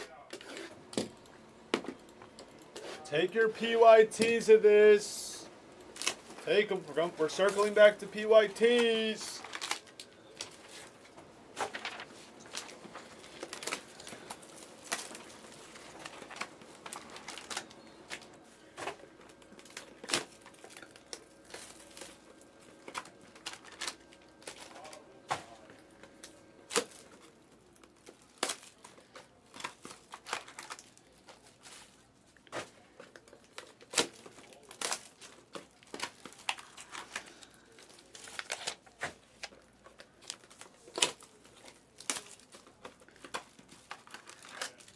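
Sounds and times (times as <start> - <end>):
plastic packaging crinkling and tearing: 5.7 - 44.9.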